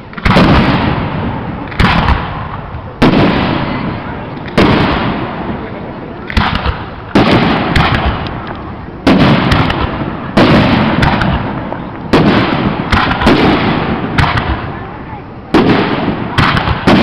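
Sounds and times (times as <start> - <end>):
firework pops and crackles: 0.0 - 14.8, 15.5 - 17.0
firework booms: 0.0 - 17.0.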